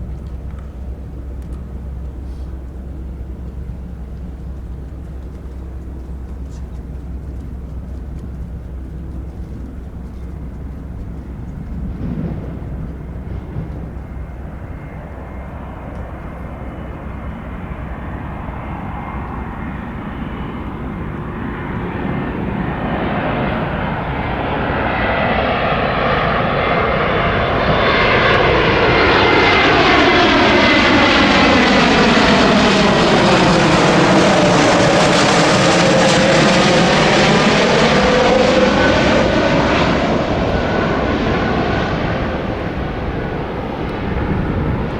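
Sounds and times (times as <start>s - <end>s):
jet airliner engines rushing: 0.0s - 44.9s.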